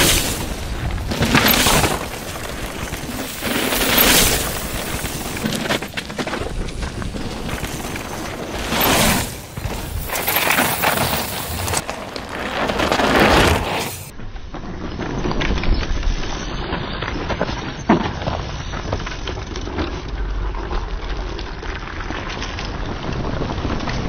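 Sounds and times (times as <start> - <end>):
bike rattling over bumps: 0.0 - 24.0
bike tyres crunching over dirt: 0.0 - 24.0.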